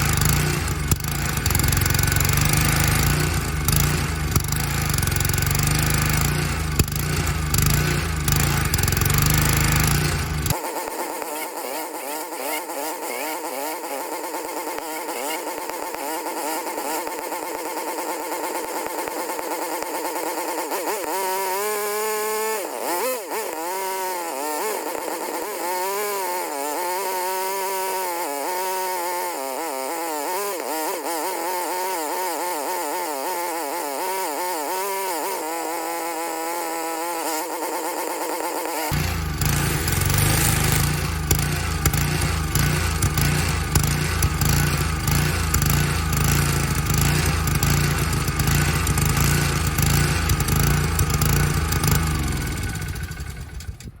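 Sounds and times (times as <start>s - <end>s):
small engine surging: 0.0s - 54.0s.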